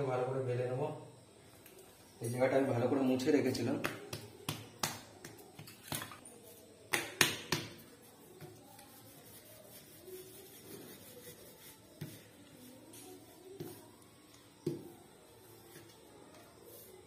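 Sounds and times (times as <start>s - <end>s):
rolling pin rolling dough: 3.2s - 17.0s.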